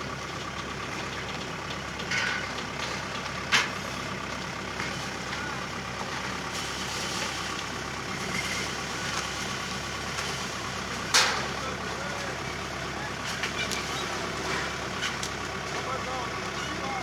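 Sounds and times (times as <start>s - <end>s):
harvester engine running: 0.0s - 17.0s.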